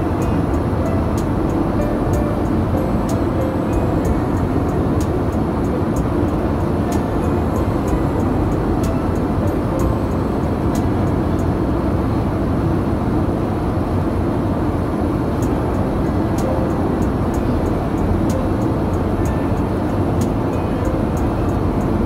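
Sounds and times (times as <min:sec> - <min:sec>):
jet airliner cabin rumble: 0:00.0 - 0:22.0.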